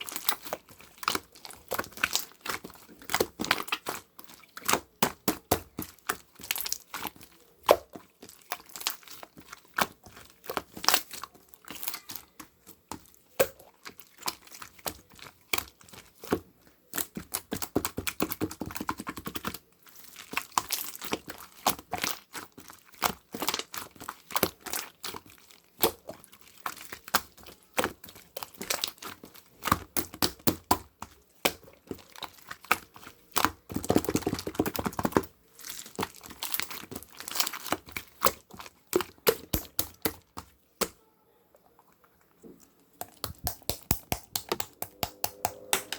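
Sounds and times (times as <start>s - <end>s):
slime squishing and crackling: 0.0s - 41.1s, 42.0s - 45.9s.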